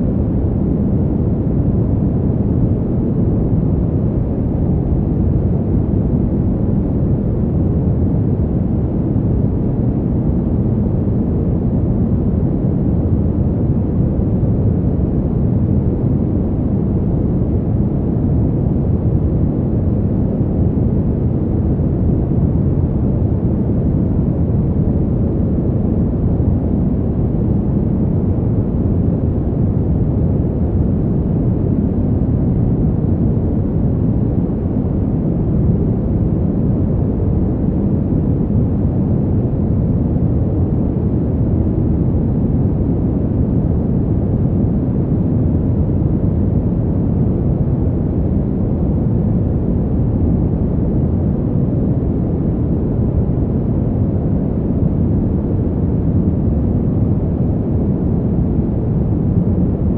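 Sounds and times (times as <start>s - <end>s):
fan heater rushing air: 0.0s - 59.9s.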